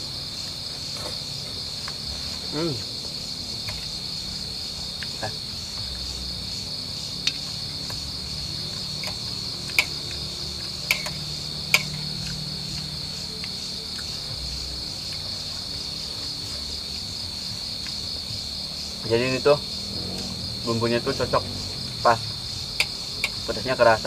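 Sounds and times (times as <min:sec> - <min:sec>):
night insects chirring: 0:00.0 - 0:24.0.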